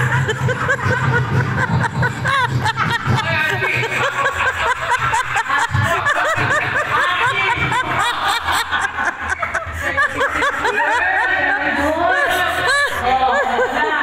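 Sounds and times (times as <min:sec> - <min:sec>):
stifled snickering: 0:00.0 - 0:14.0.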